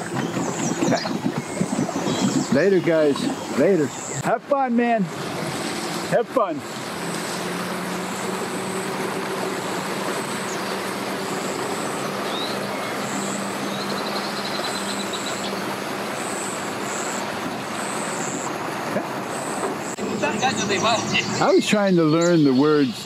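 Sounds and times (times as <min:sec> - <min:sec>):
personal watercraft engine running: 0:00.0 - 0:23.0.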